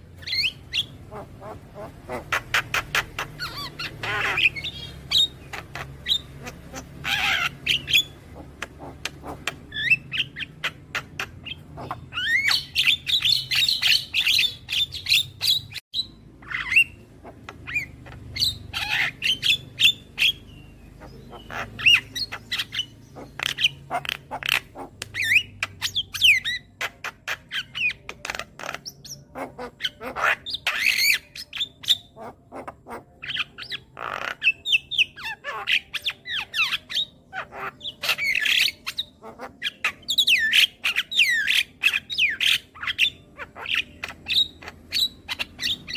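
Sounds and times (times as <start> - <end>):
myna squawks and chirps: 0.2 - 45.9.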